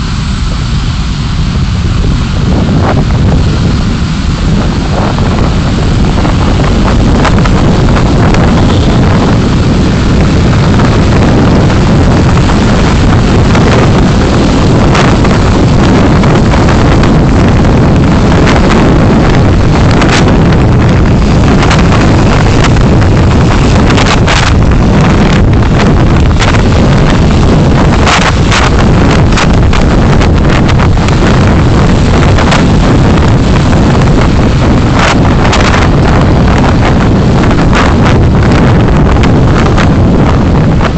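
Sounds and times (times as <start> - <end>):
road and wind rumble: 0.0 - 40.9.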